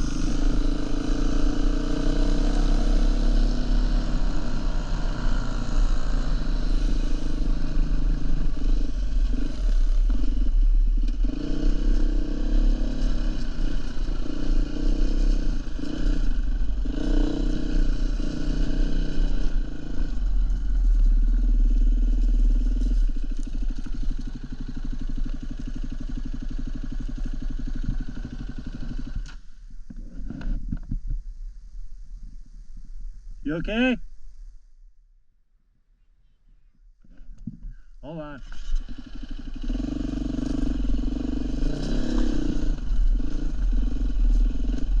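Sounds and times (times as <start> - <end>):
dirt bike engine revving: 0.0 - 29.4, 38.2 - 45.0.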